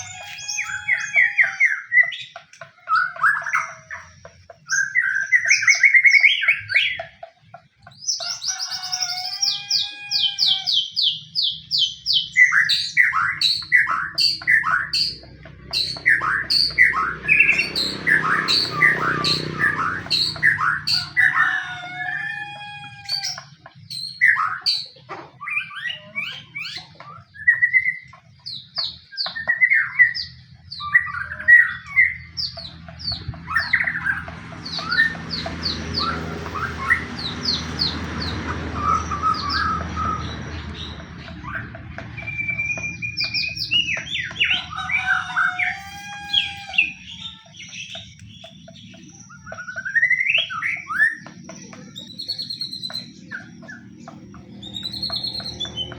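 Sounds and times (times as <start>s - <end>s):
songbird whistles and trills: 0.0s - 55.9s.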